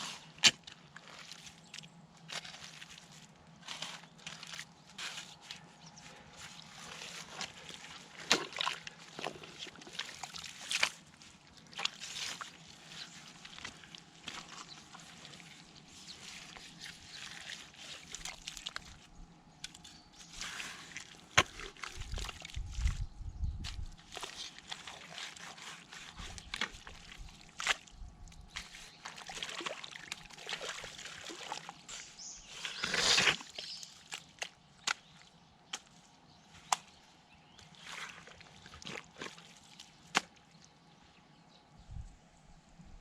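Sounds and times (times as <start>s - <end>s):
mud squelches and splashes: 0.0s - 41.0s
water and mud sloshing: 0.0s - 41.1s.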